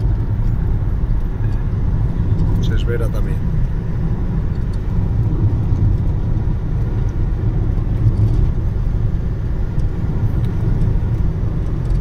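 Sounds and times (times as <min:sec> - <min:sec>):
car engine rumble: 0:00.0 - 0:12.0
tyres on road: 0:00.0 - 0:12.0.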